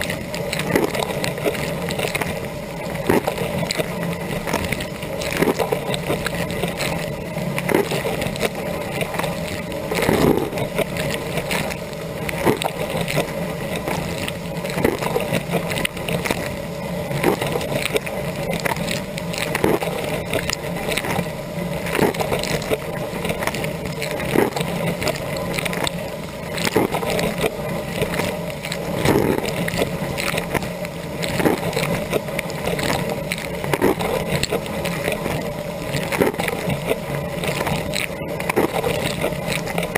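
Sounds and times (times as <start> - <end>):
wash pump humming: 0.0 - 39.9.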